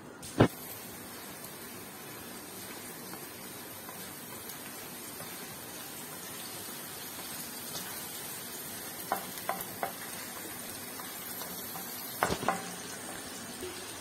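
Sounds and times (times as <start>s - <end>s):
onions sizzling in hot oil: 0.2s - 14.0s.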